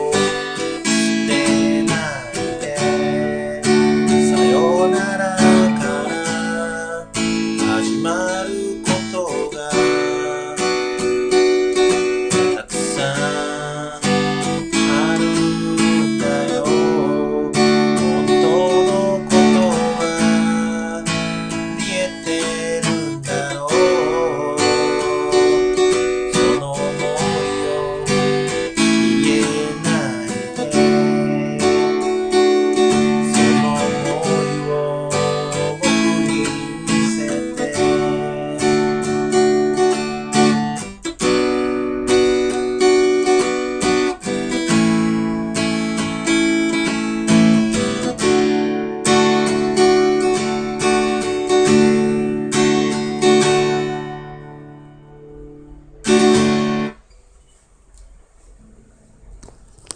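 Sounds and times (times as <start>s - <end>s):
man singing: 0.0s - 41.4s, 42.1s - 54.2s
acoustic guitar strumming: 0.0s - 59.9s.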